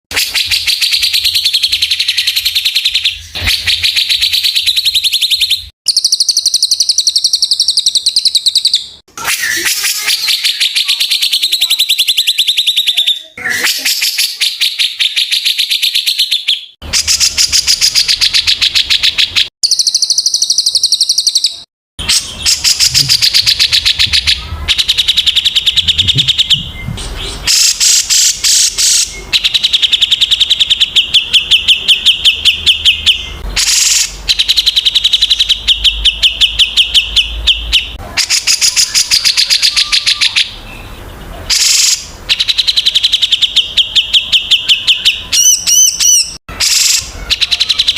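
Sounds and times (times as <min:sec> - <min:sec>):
songbird chirping phrases: 0:00.3 - 0:47.9.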